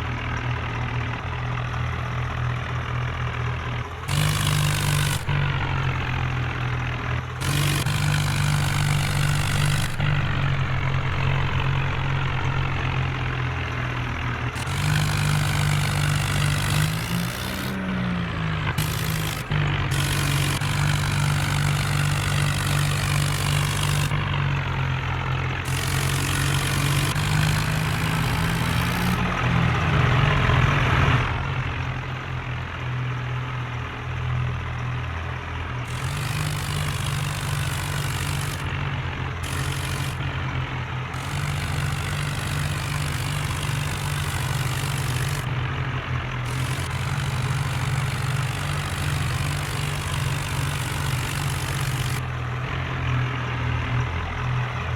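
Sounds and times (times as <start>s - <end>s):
tractor engine revving: 0.0s - 54.9s.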